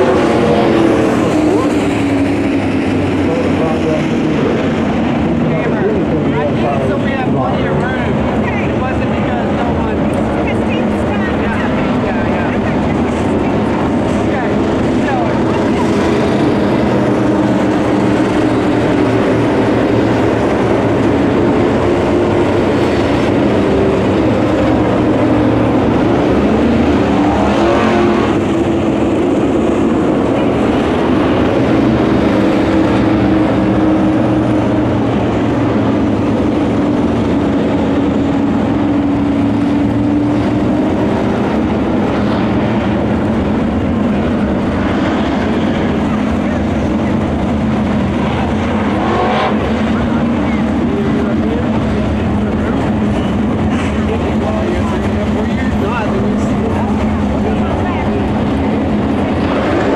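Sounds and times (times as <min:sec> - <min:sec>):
race car engines at speed: 0:00.0 - 0:59.9
race car passing close by: 0:00.0 - 0:59.9.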